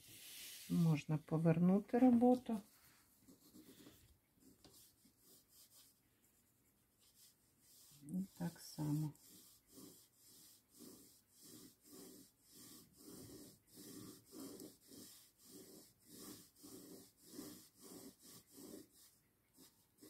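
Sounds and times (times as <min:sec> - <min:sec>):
pen scratching on paper: 0:02.0 - 0:20.0.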